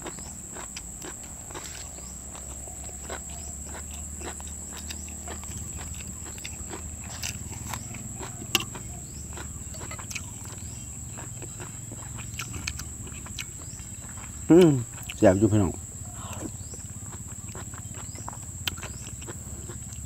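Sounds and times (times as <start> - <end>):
chewing and mouth sounds: 0.0 - 20.0.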